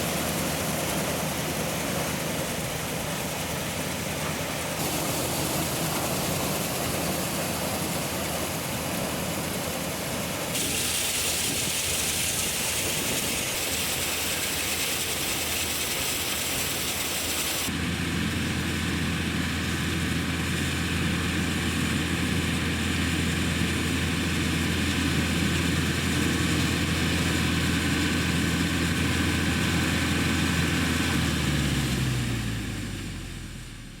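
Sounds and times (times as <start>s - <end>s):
tractor running: 0.0s - 34.0s.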